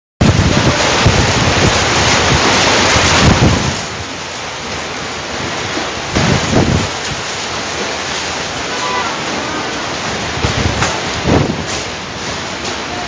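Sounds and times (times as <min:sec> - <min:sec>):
heavy rain: 0:00.2 - 0:13.0
storm wind buffeting microphone: 0:00.2 - 0:13.0.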